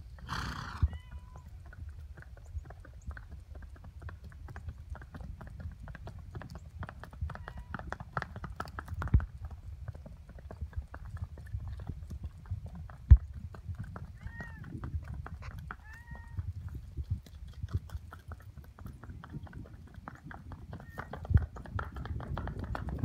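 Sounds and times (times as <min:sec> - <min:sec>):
horse hoofbeats: 0:00.0 - 0:23.0.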